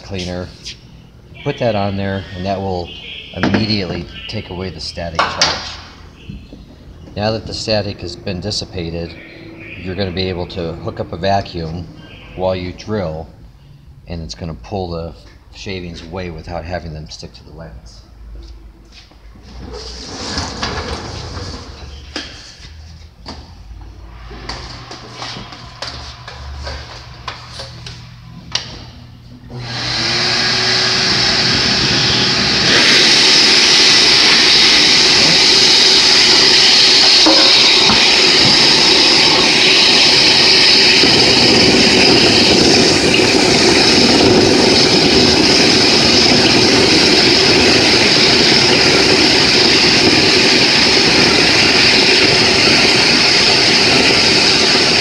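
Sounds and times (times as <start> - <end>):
shop vacuum running: 0.0 - 13.8, 18.3 - 55.0.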